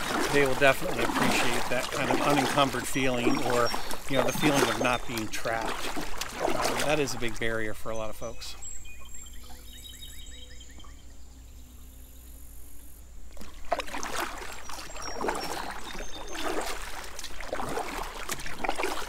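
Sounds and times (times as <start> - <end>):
kayak paddle splashing in water: 0.0 - 10.2, 13.3 - 19.0
water dripping off paddle blades: 0.0 - 10.2, 13.3 - 19.0.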